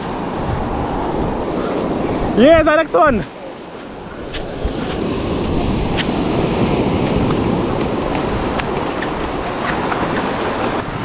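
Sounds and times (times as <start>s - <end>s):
waves breaking on sandy beach: 0.0s - 11.0s
wind buffeting microphone: 0.0s - 11.0s.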